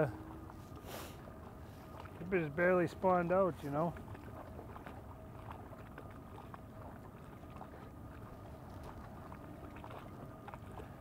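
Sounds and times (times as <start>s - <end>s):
faint steady hum: 0.0s - 11.0s
low boat rumble: 0.0s - 11.0s.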